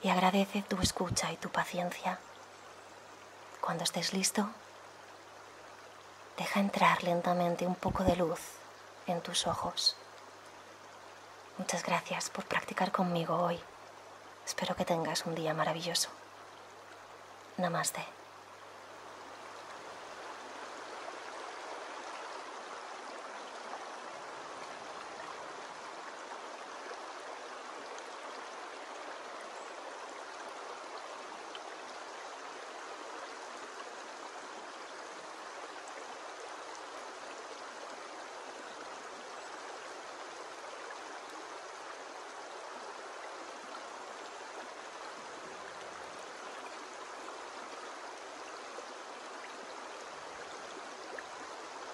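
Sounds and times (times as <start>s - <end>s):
stream running over stones: 0.0s - 51.9s.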